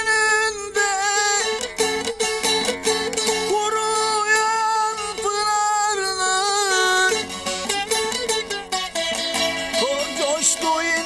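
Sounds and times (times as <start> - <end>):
plucked string folk melody: 0.0 - 11.0.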